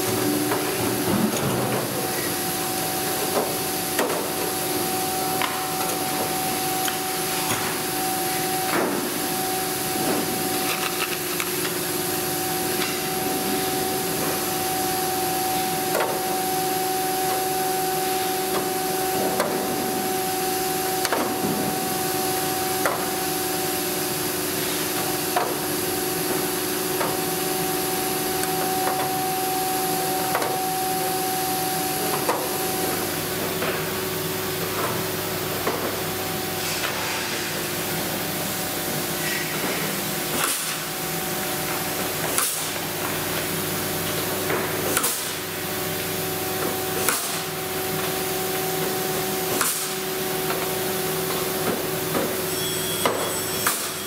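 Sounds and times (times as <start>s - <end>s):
workshop hum: 0.0s - 54.0s.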